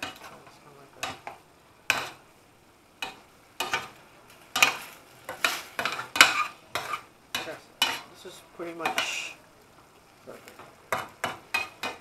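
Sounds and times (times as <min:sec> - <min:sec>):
spoon scraping a frying pan: 0:00.0 - 0:02.3, 0:03.0 - 0:09.4, 0:10.5 - 0:12.0.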